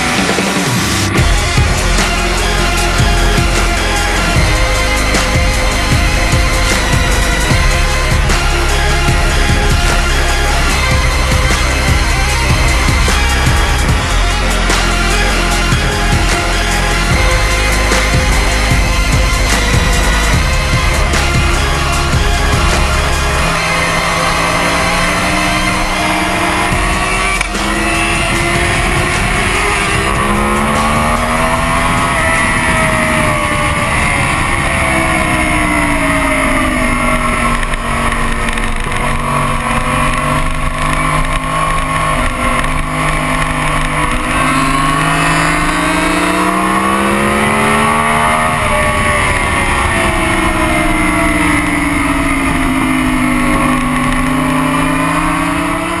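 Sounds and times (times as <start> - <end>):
sport bike engine: 0.0 - 56.0.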